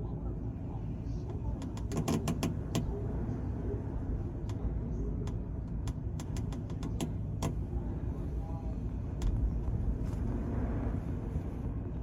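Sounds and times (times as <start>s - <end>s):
ship low rumble: 0.0s - 12.0s.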